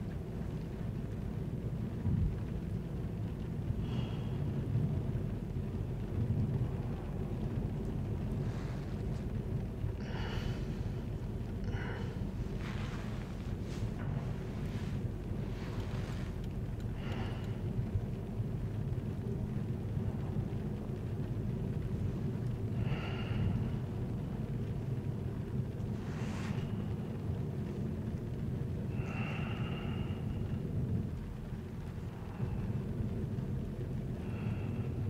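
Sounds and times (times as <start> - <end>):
vehicle interior rumble: 0.0 - 35.0.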